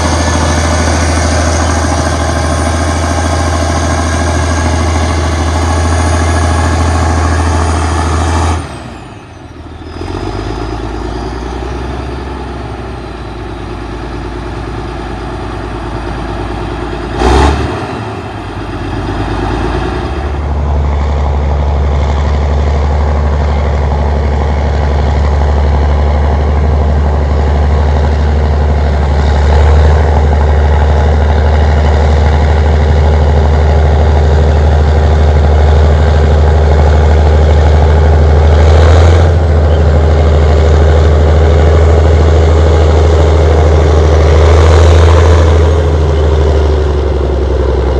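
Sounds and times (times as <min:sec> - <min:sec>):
diesel engine low drone: 0:00.0 - 0:47.9.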